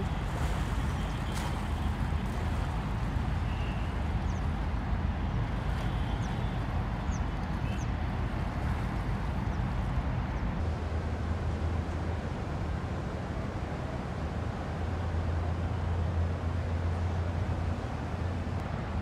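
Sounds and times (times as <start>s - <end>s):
city traffic rumble: 0.0s - 19.0s
river noise: 0.0s - 19.0s.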